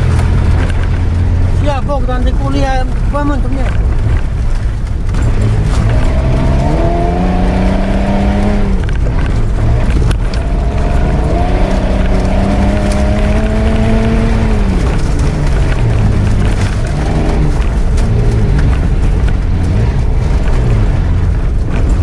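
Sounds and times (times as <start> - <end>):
engine revving: 0.0 - 4.4, 5.0 - 22.0
vehicle rumbling over rough track: 0.0 - 22.0.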